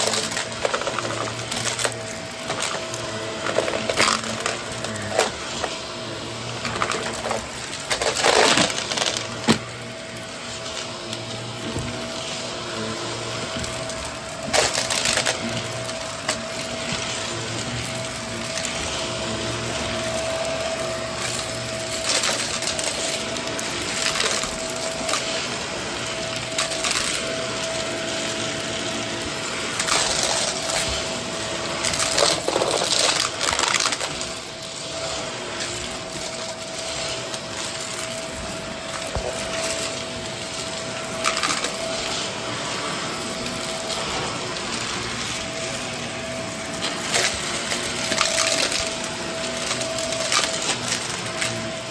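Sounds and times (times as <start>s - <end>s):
crackles and rattles: 0.0s - 12.5s, 13.2s - 51.9s
vacuum cleaner motor hum: 0.0s - 51.9s.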